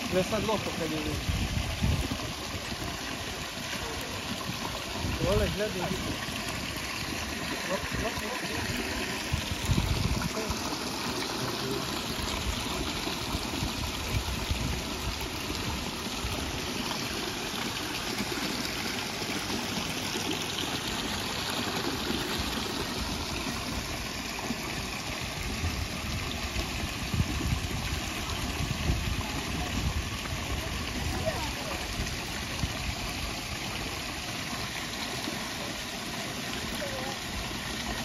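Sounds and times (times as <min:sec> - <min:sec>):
water splashing into a pool: 0:00.0 - 0:38.0.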